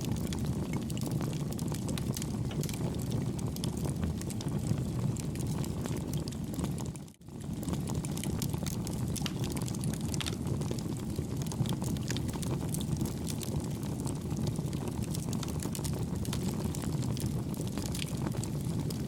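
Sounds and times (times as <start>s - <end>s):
campfire flames rushing: 0.0s - 19.0s
fire crackling and popping: 0.0s - 19.0s.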